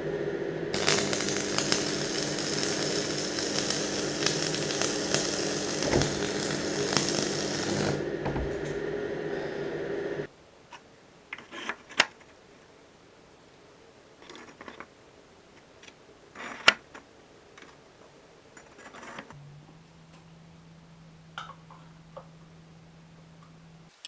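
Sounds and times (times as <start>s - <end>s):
low steady hum: 0.0s - 16.3s, 17.0s - 24.0s.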